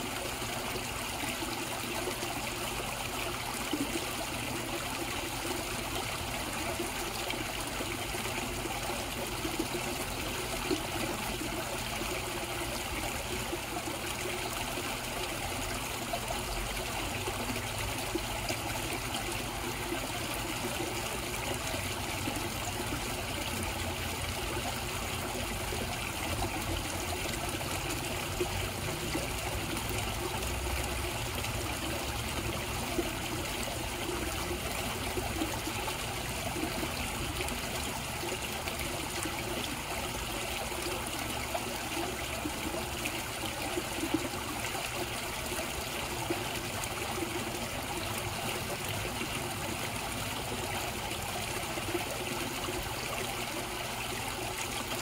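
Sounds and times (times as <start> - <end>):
pond water trickling: 0.0 - 55.0.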